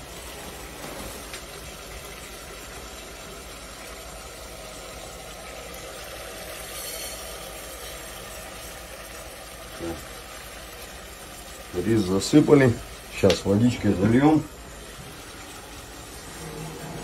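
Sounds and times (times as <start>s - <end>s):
frying hiss in pot: 0.0s - 17.0s.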